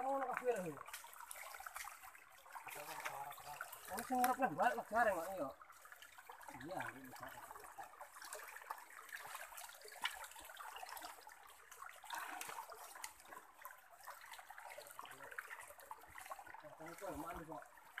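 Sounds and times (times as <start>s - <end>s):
people wading through water: 0.0s - 18.0s
stream trickling and splashing: 0.0s - 18.0s.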